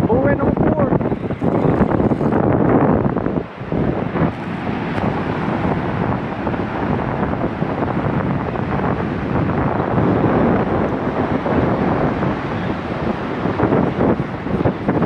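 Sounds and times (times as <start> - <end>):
surf and moving water: 0.0 - 15.0
wind buffeting microphone: 0.0 - 15.0.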